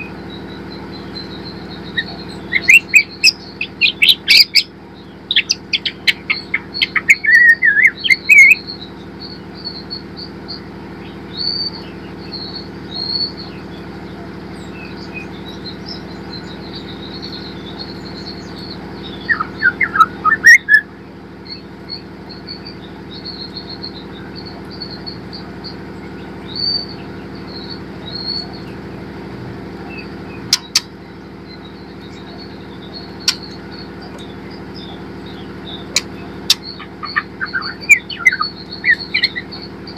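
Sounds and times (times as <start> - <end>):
bird chirping in quick bursts: 0.0 - 39.9
high twittering: 0.0 - 39.9.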